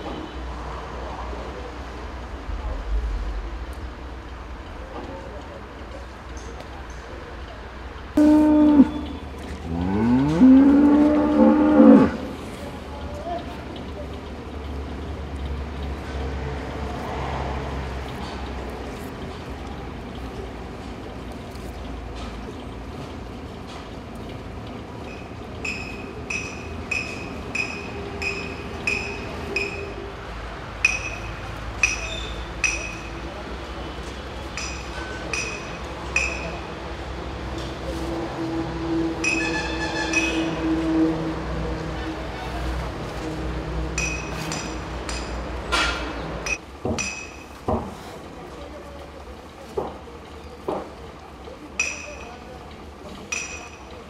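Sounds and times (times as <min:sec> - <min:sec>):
low farmyard background: 0:04.6 - 0:54.0.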